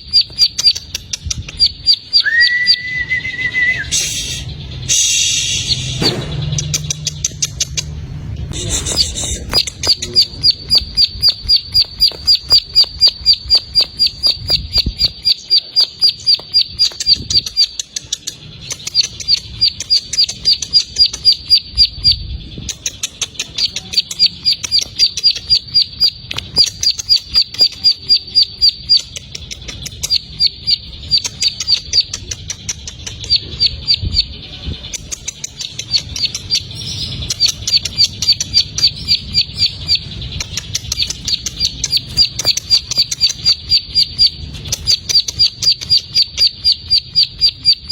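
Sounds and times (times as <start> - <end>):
bird singing rapid sharp notes: 0.0 - 47.9.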